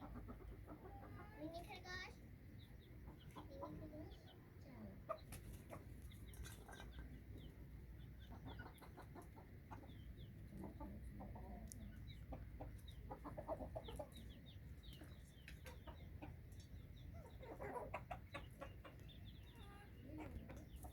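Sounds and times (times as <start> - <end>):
chickens clucking: 0.0 - 20.9
chicks peeping: 0.0 - 20.9.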